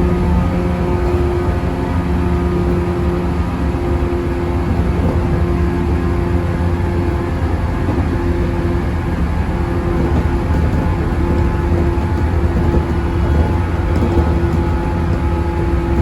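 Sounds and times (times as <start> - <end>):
steady hum: 0.0 - 16.0
train wheels rumbling on track: 0.0 - 16.0.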